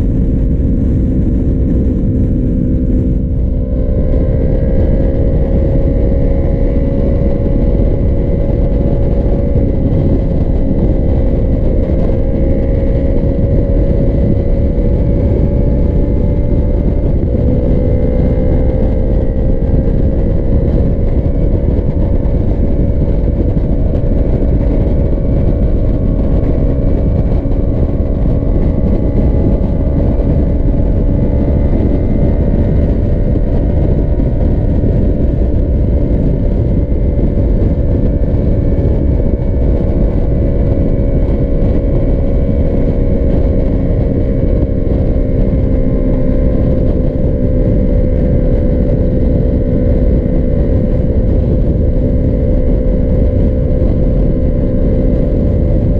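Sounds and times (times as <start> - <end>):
motorcycle engine cruising: 0.0 - 55.9
wind rumble on microphone: 0.0 - 55.9.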